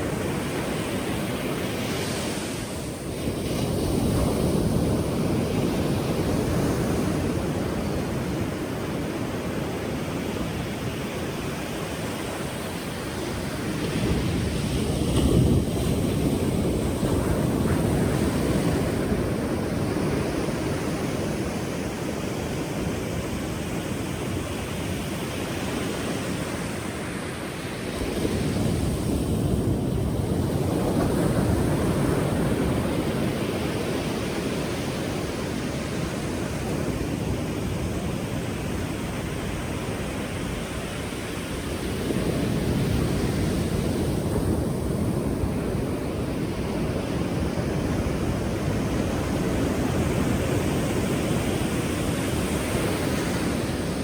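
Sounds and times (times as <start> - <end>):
ocean surf rushing: 0.0 - 54.0
waves breaking: 0.0 - 54.0.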